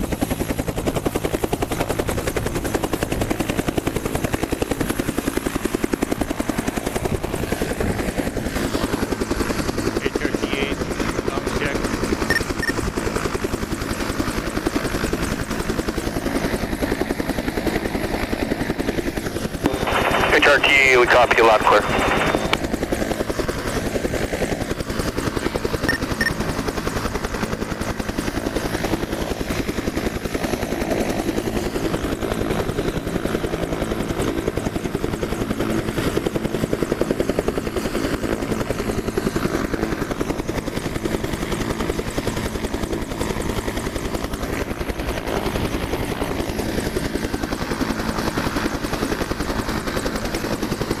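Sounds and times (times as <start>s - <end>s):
helicopter rotor chop and engine: 0.0s - 51.0s.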